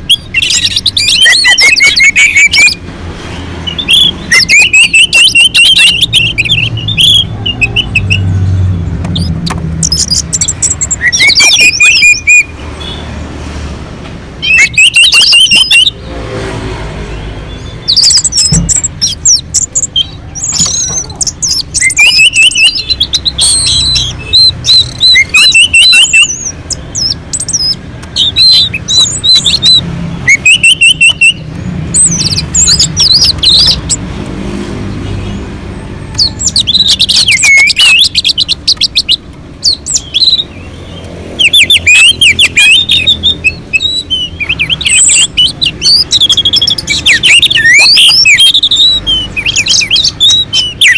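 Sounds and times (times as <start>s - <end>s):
thrush singing: 0.0s - 50.9s.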